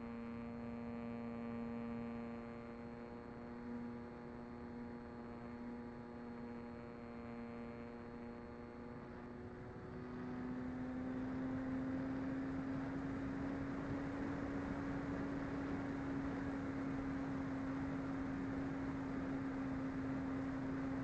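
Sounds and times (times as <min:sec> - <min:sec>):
electric motor and propeller humming: 0:00.0 - 0:21.0.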